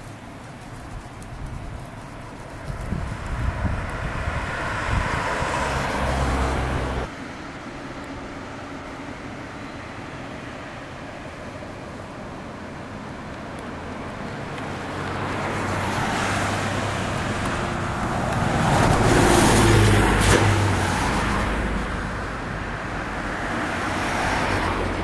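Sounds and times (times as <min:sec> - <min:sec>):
bus passing by: 0:00.0 - 0:25.0.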